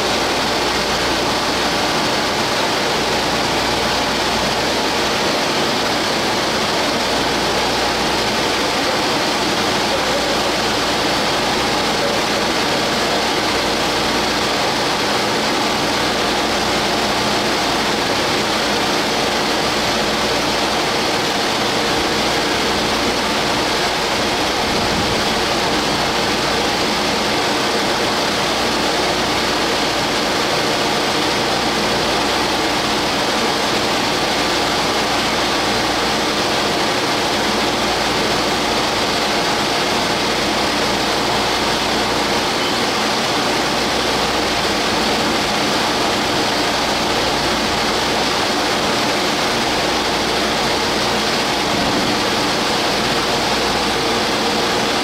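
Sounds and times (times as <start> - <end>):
train equipment hum and hiss: 0.0 - 55.0.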